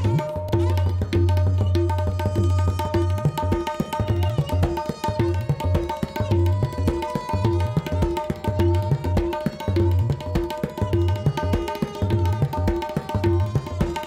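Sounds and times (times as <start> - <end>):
deep ringing tabla bass strokes: 0.0 - 14.0
tabla playing: 0.0 - 14.0.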